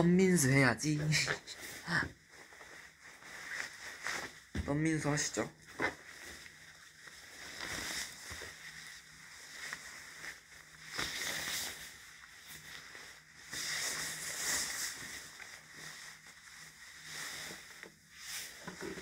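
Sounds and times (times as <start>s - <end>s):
faint room hum: 0.0s - 19.0s
jacket fabric rustling: 0.0s - 19.0s.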